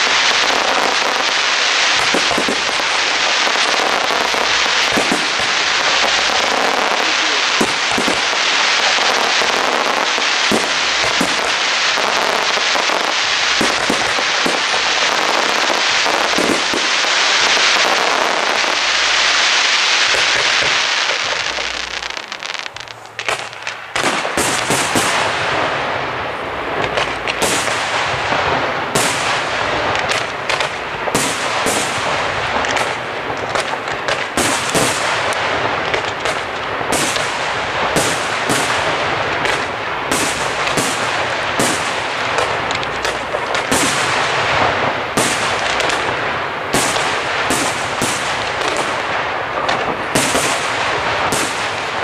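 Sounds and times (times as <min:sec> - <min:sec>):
continuous rush of noise: 0:00.0 - 0:52.0
fireworks bursting with sharp bangs: 0:00.0 - 0:52.0.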